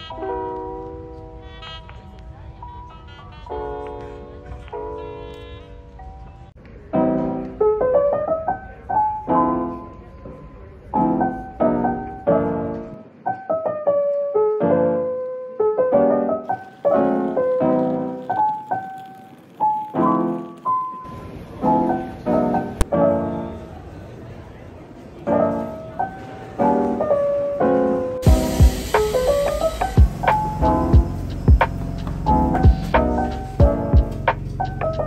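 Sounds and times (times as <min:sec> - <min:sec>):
slow lo-fi piano music: 0:00.0 - 0:35.0.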